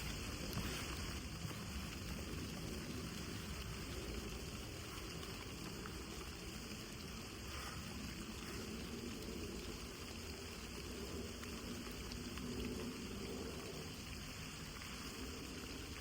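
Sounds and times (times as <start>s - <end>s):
rain falling steadily: 0.0s - 16.0s.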